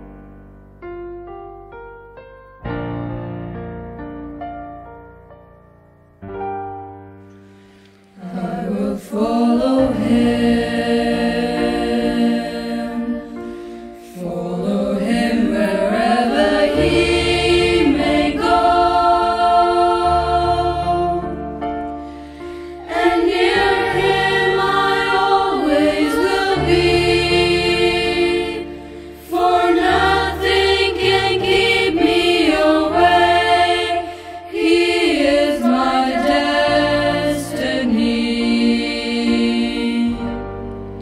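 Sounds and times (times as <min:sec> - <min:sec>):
choir singing slow song: 0:07.4 - 0:41.0.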